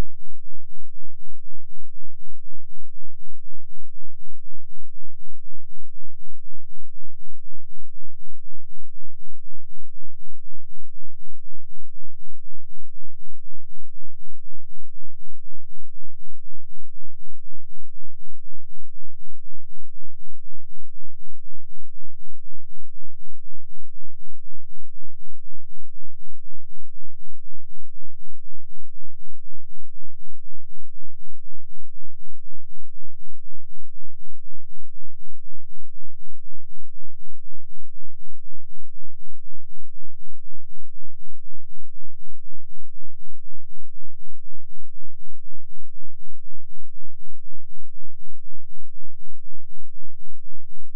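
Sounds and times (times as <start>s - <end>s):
faint low rumble: 0.0s - 50.9s.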